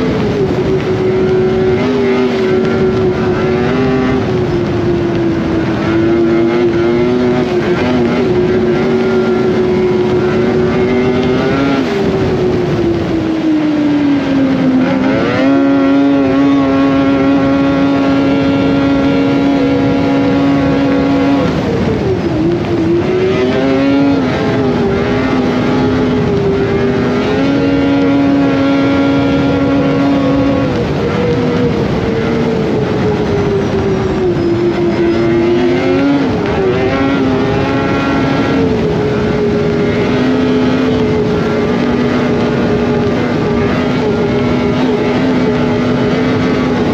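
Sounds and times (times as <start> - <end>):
snowmobile engine running: 0.0 - 46.9.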